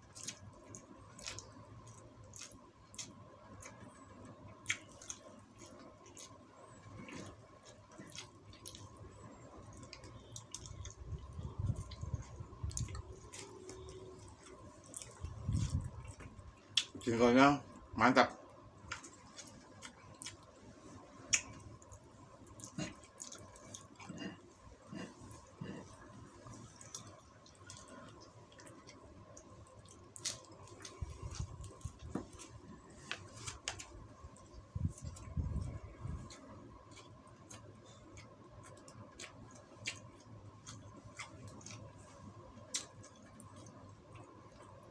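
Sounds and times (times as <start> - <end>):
man chewing: 0.0 - 17.1, 18.5 - 44.9.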